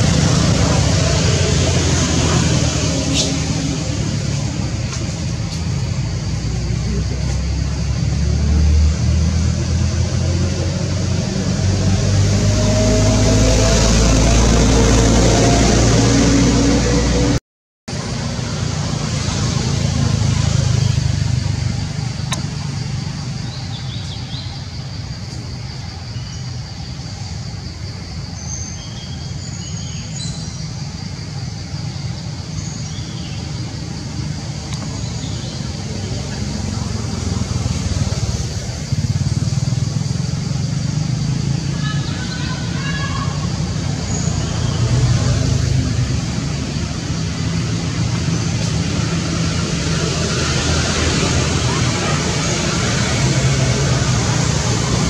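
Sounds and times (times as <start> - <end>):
low rumble with hiss: 0.0 - 12.4, 18.0 - 55.0.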